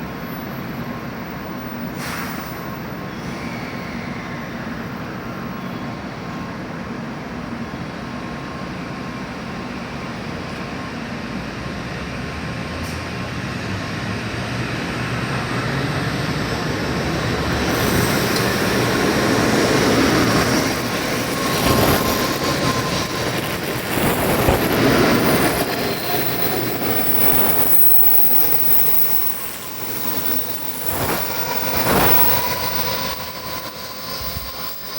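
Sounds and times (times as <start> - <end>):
high-speed train rushing: 0.0 - 34.9.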